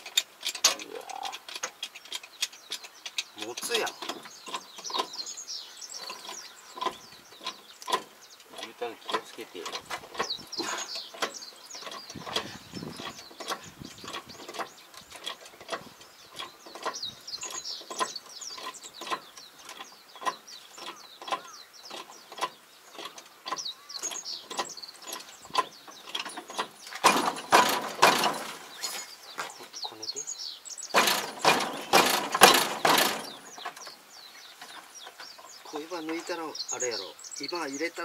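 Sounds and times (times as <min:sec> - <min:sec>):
hand tools clicking and knocking: 0:00.0 - 0:05.4, 0:06.0 - 0:29.9, 0:30.9 - 0:34.0
rough scraping: 0:00.0 - 0:30.0, 0:30.9 - 0:37.1.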